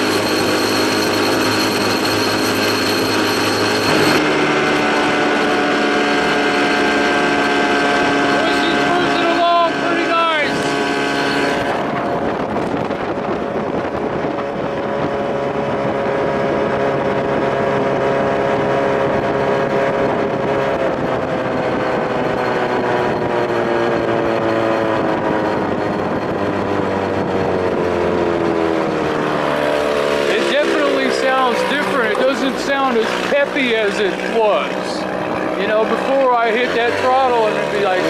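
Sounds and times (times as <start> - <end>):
outboard motor running: 0.0 - 38.0
wind: 0.0 - 38.0.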